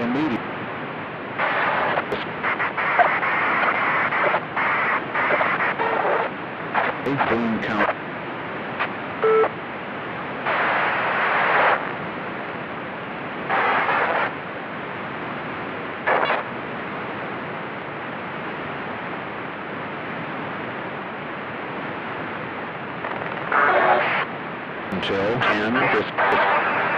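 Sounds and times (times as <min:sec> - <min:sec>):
broadcast static hiss: 0:00.0 - 0:26.9
bursts of static noise: 0:00.0 - 0:26.9.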